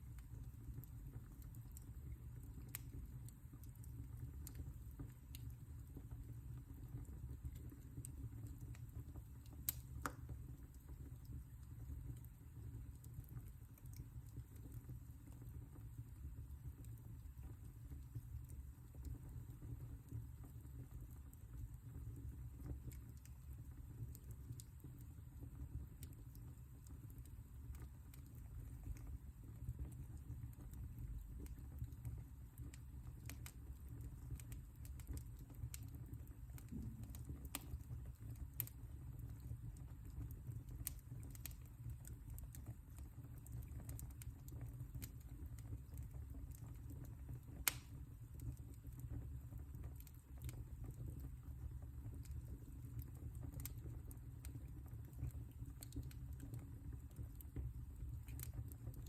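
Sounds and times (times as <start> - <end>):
fire crackles and pops: 0.0 - 59.0
fire rumbling in fireplace: 0.0 - 59.0.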